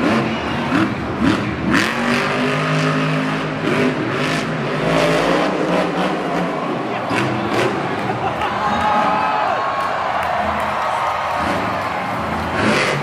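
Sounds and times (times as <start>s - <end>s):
truck engine revving hard: 0.0s - 9.2s, 10.4s - 13.0s.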